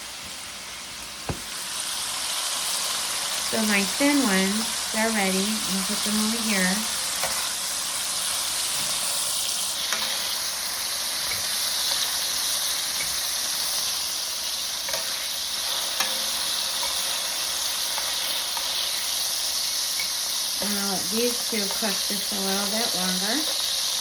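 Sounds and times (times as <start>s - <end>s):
steaks sizzling in a pan: 0.0s - 24.0s.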